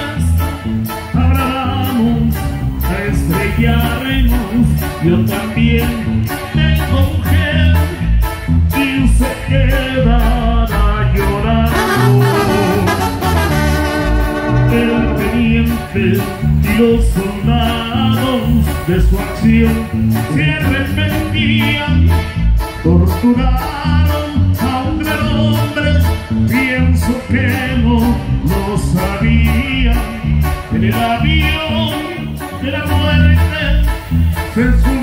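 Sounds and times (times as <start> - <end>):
brass band music: 0.0 - 35.0
pulsing bass: 0.0 - 35.0
trombones: 0.0 - 35.0.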